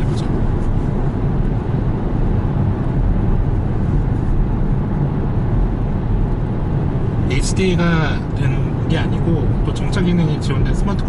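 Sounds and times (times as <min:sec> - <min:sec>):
car engine: 0:00.0 - 0:11.0
road and tyre rumble in car: 0:00.0 - 0:11.0.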